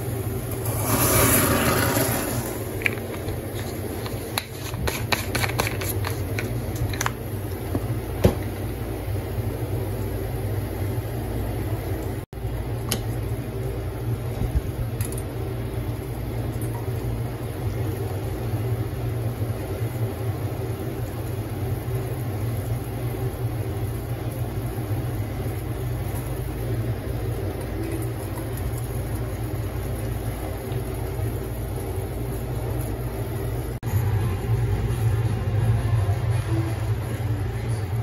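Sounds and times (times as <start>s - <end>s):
liquid boiling in kettle: 0.0s - 36.2s
gas burner flame rumbling: 0.0s - 38.0s.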